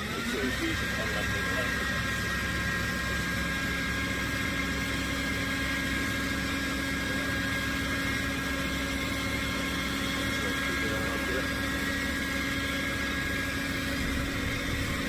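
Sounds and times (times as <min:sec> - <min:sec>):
truck engine droning with whine: 0:00.0 - 0:15.0.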